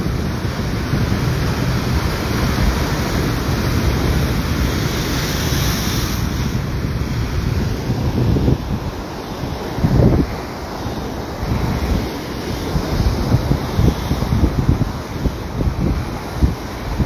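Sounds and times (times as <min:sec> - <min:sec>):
waves breaking over rocks: 0:00.0 - 0:17.0
wind buffeting microphone: 0:00.0 - 0:17.0.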